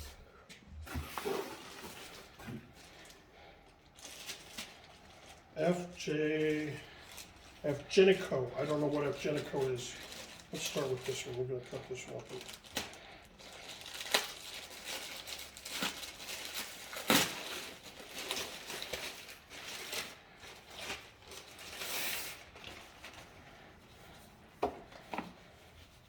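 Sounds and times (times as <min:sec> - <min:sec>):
wrapping crinkling and tearing: 0:01.2 - 0:23.4.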